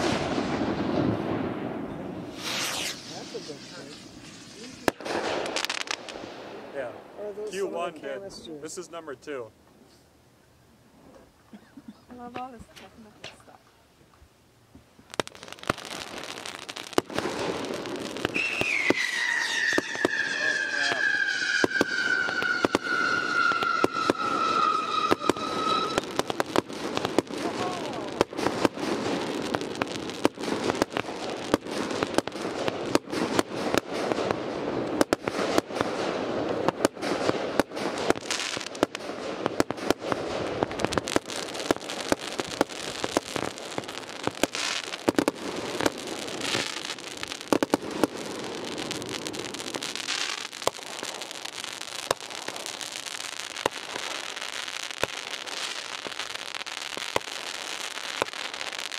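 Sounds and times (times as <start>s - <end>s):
fireworks bangs: 0.0s - 8.2s, 14.7s - 58.9s
fireworks crackle: 0.0s - 9.4s, 11.1s - 58.9s.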